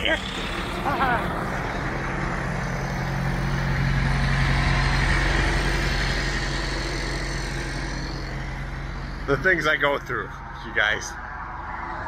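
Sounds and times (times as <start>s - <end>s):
diesel truck engine idling: 0.0s - 11.7s.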